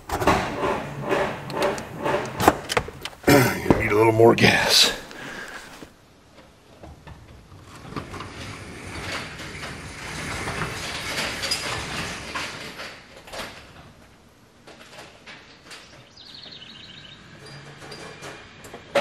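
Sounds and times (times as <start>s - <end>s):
garage door rattling open: 0.0s - 4.1s, 6.9s - 16.1s, 16.9s - 19.0s.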